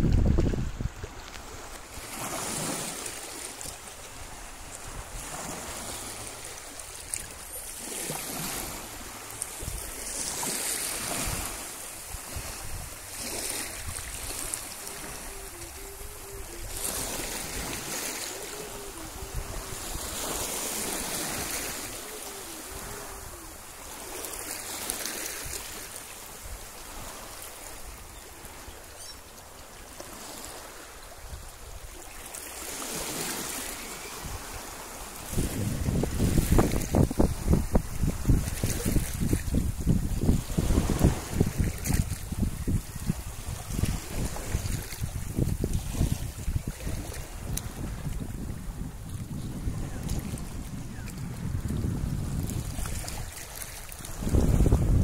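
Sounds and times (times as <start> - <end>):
small waves on rocky shore: 0.0 - 55.0.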